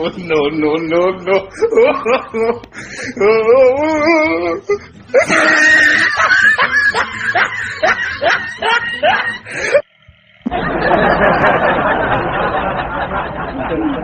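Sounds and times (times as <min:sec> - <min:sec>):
person laughing: 0:00.0 - 0:09.8, 0:10.5 - 0:14.0.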